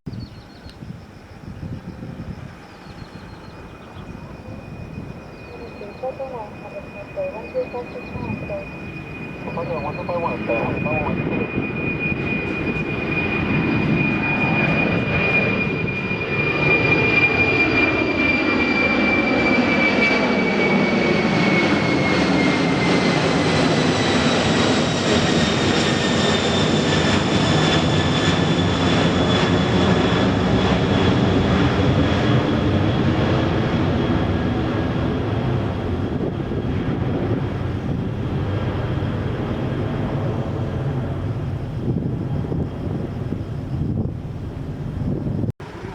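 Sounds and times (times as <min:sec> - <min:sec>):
jet airliner passing: 0:00.2 - 0:45.9.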